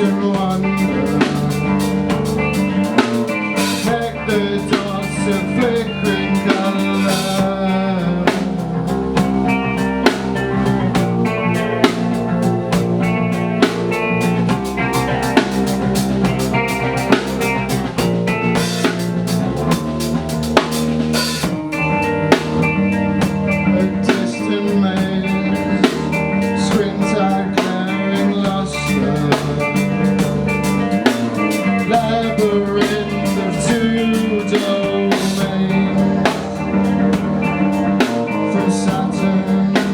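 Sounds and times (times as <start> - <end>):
bass notes: 0.0 - 39.9
drum kit beat: 0.0 - 39.9
electric guitar notes: 0.0 - 39.9.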